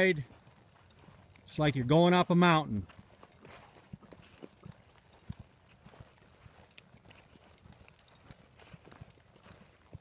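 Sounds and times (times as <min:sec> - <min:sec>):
horse hoofbeats on dirt: 0:00.0 - 0:10.0.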